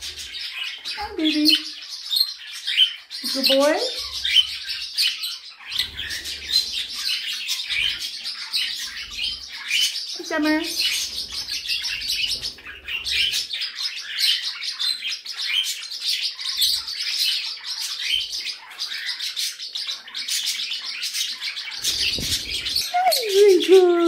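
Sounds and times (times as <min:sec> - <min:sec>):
parrots chirping and chattering: 0:00.0 - 0:24.0.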